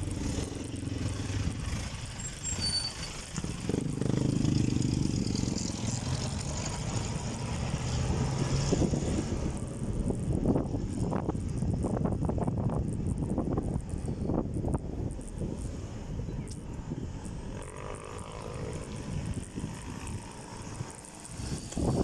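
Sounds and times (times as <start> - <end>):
truck and motorcycle engines running: 0.0 - 22.0.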